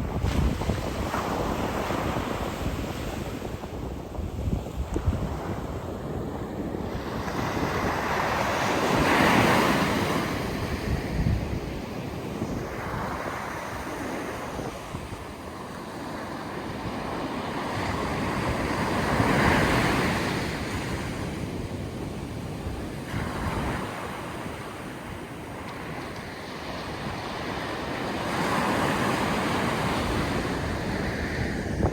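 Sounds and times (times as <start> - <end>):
wind buffeting microphone: 0.0 - 31.9
sea waves surging onto shore: 5.2 - 31.9.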